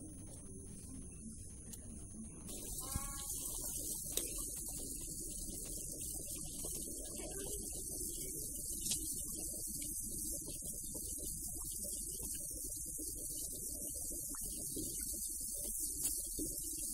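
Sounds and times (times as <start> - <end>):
pot of water boiling: 0.0 - 16.9.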